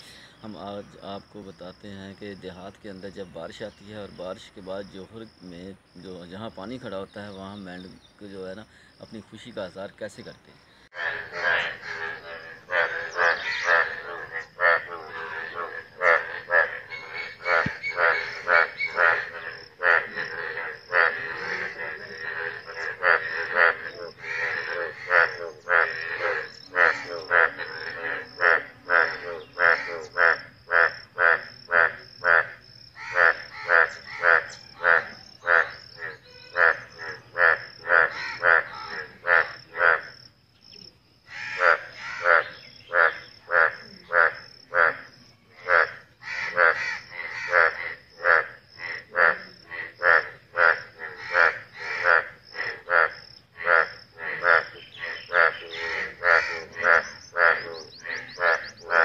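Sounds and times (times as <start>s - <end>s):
bullfrogs croaking: 0.0s - 59.0s.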